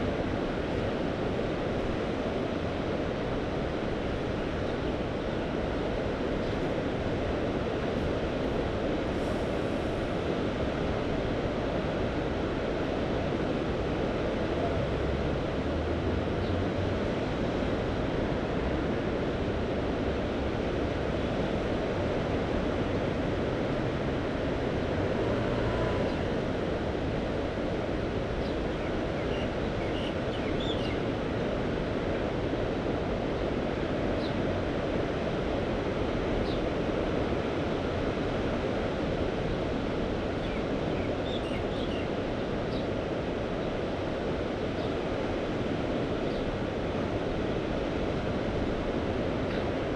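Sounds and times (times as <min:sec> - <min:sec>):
sea surf washing: 0:00.0 - 0:49.9.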